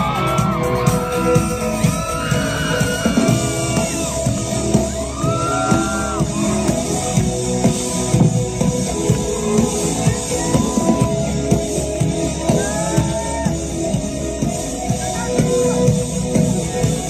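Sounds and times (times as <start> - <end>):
drum kit beat: 0.0 - 17.0
keyboard: 0.0 - 17.0.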